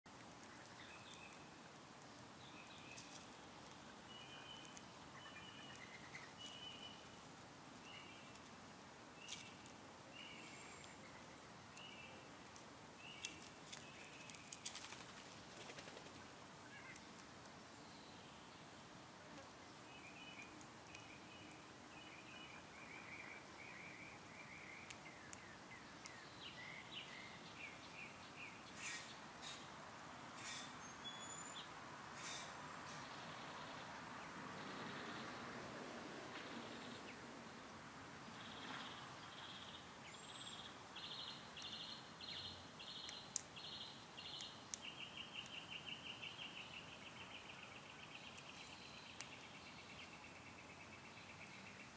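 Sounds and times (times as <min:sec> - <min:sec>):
birds chirping: 0:00.1 - 0:08.5, 0:09.2 - 0:35.5, 0:38.2 - 0:51.9.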